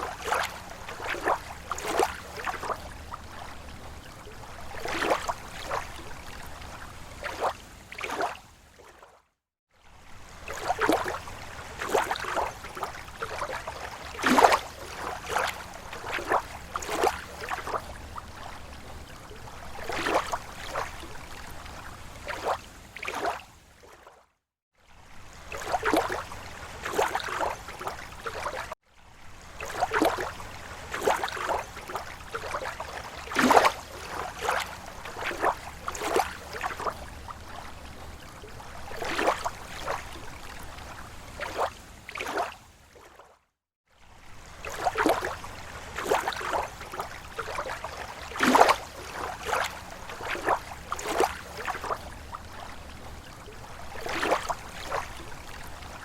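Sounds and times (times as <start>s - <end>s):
small waves lapping shore: 0.0s - 56.0s.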